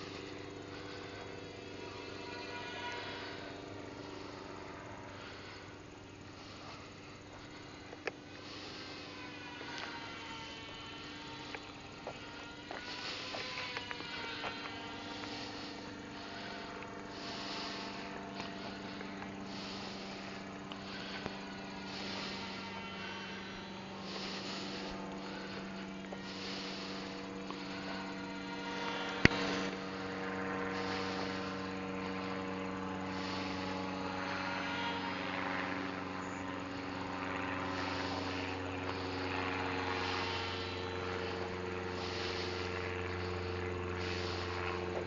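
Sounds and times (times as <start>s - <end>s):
small electric propeller buzzing: 0.0s - 45.0s.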